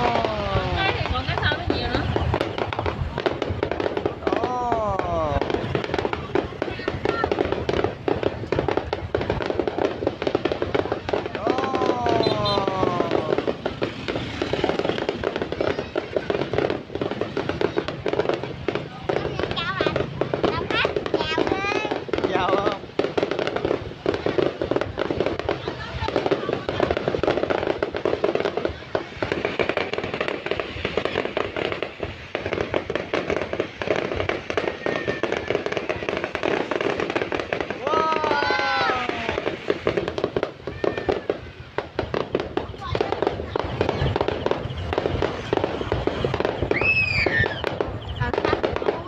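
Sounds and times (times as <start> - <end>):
fireworks crackling: 0.0 - 49.0.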